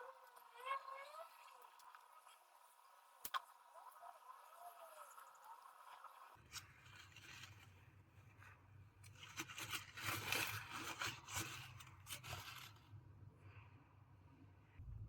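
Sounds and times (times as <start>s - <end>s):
faint scraping and rustling: 0.0s - 13.7s.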